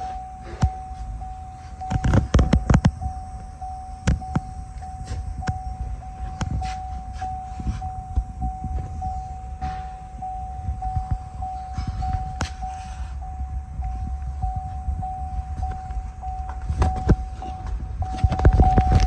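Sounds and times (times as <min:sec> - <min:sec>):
high electronic tone: 0:00.0 - 0:19.0
low rumble: 0:00.0 - 0:19.0.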